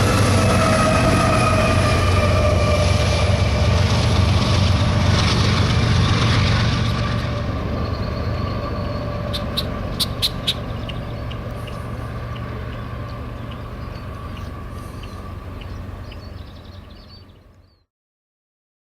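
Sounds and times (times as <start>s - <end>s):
freight train rumbling: 0.0s - 17.8s.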